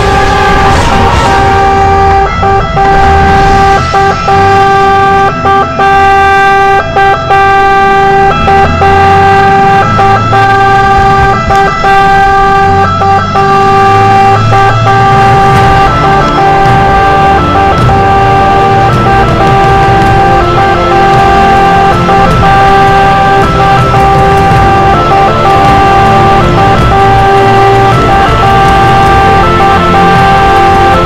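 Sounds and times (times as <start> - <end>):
fire engine siren: 0.0 - 31.0
truck engine rumble: 0.0 - 31.0.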